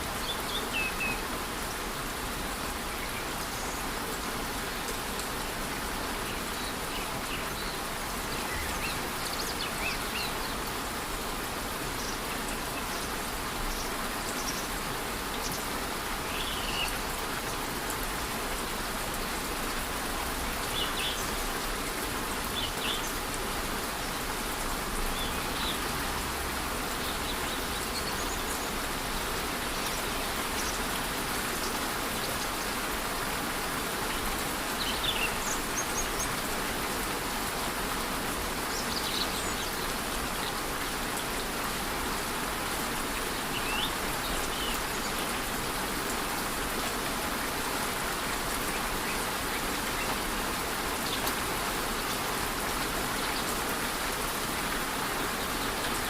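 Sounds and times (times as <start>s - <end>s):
light rain: 0.0s - 56.0s
waterfall rushing: 0.0s - 56.0s.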